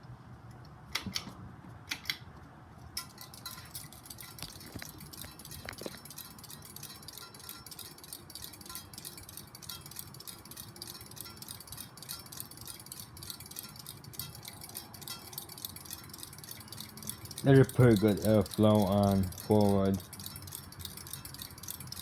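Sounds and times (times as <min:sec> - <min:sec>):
ceiling fan running: 0:00.0 - 0:22.0
light chime-like clinking: 0:03.0 - 0:22.0.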